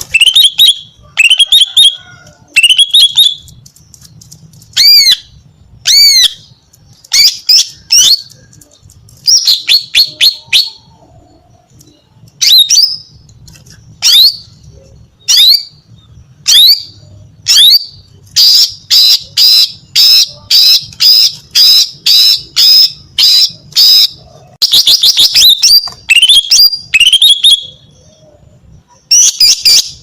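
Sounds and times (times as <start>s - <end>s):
bird calling with sharp high notes: 0.0s - 4.1s, 4.7s - 30.0s.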